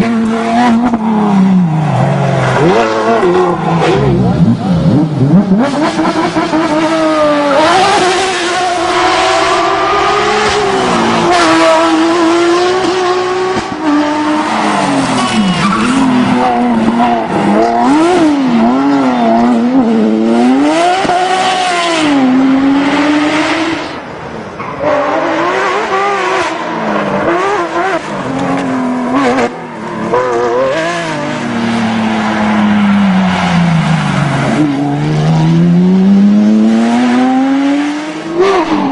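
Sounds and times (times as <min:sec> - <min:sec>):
rally car engine revving hard: 0:00.0 - 0:24.0, 0:24.8 - 0:38.9.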